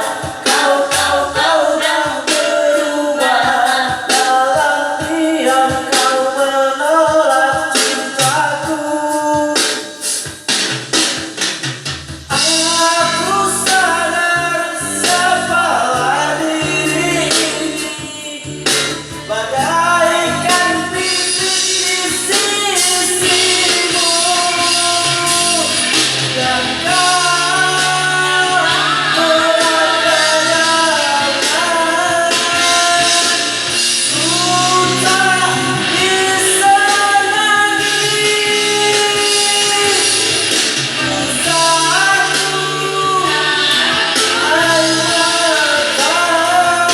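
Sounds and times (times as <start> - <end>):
person singing a melody: 0.0 - 10.4, 12.3 - 46.9
instrumental accompaniment with bass: 0.0 - 46.9.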